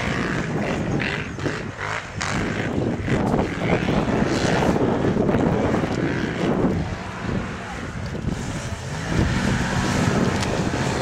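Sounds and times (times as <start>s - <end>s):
atv engines revving: 0.0s - 11.0s.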